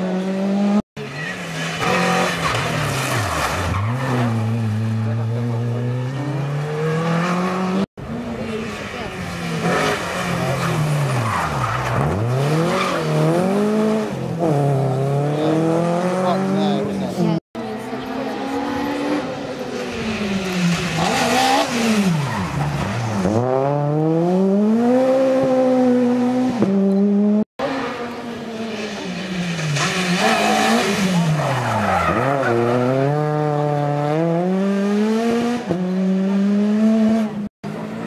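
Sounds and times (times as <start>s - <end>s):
rally car engine accelerating: 0.0s - 38.0s.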